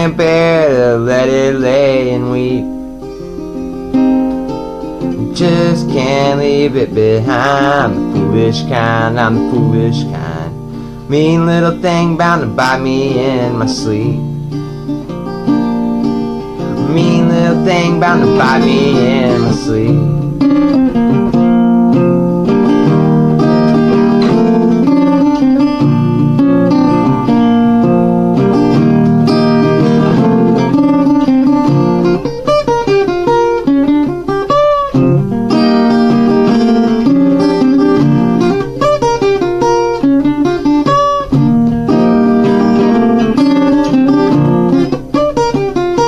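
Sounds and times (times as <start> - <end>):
acoustic guitar instrumental music: 0.0 - 46.0.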